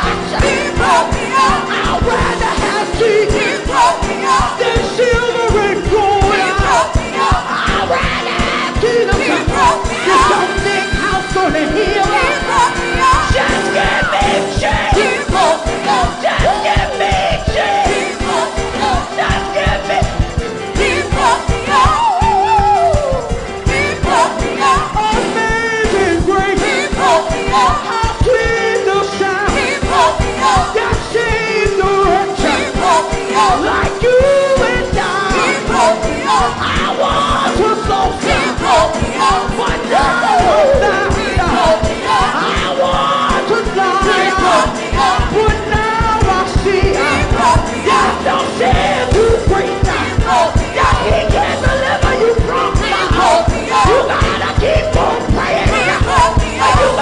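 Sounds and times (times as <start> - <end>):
drums keeping a steady beat: 0.0 - 57.0
gospel choir singing: 0.0 - 57.0
live band playing: 0.0 - 57.0.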